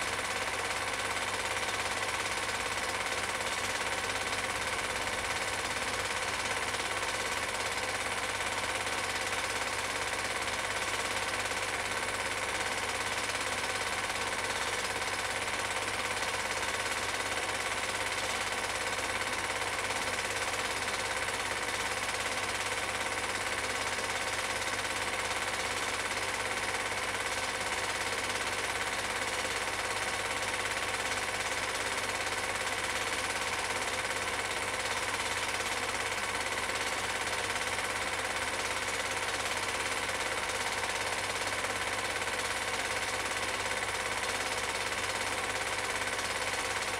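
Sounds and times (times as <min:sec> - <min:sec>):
film projector clattering: 0:00.1 - 0:46.9.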